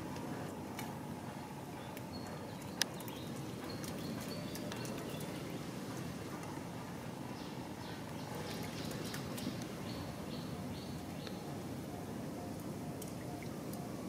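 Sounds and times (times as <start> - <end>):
low rush of background noise: 0.0 - 14.0.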